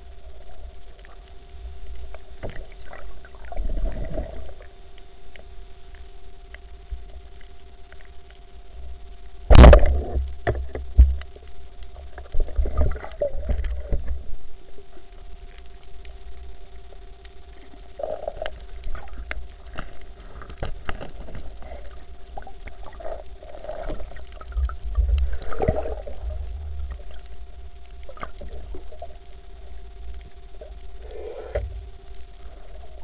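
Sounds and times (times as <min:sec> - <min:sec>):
water gurgles: 0:00.0 - 0:05.4, 0:08.8 - 0:33.0
faint steady hum: 0:00.0 - 0:33.0
underwater water rumble: 0:00.0 - 0:33.0
sharp clicks and crackles: 0:00.1 - 0:33.0.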